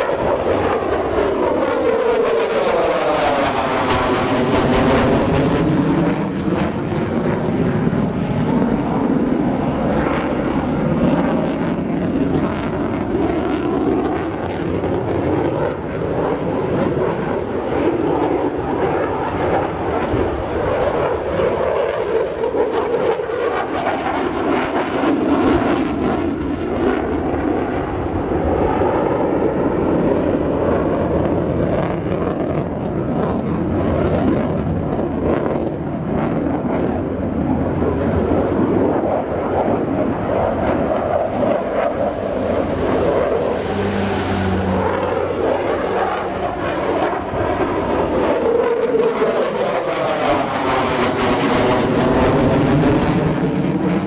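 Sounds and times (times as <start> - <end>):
fighter jet roar: 0.0 - 54.0.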